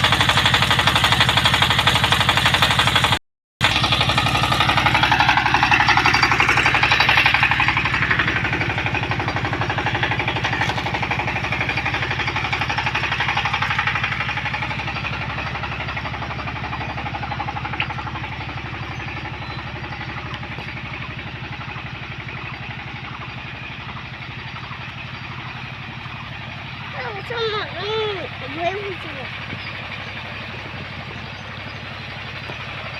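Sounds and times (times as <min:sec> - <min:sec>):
digger engine running: 0:00.0 - 0:32.9.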